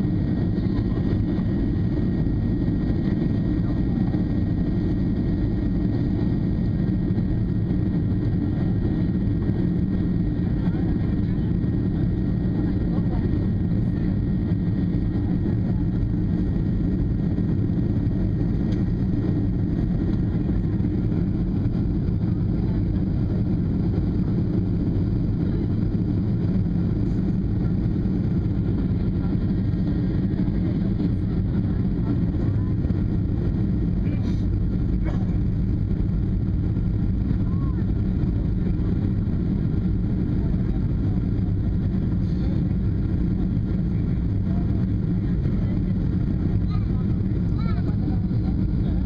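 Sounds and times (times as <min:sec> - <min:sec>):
airliner cabin engine drone: 0:00.0 - 0:49.0.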